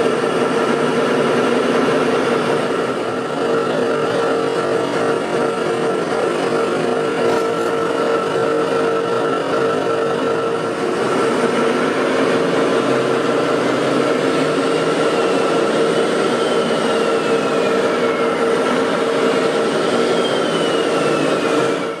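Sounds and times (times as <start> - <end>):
mechanical whir with whine: 0.0 - 22.0.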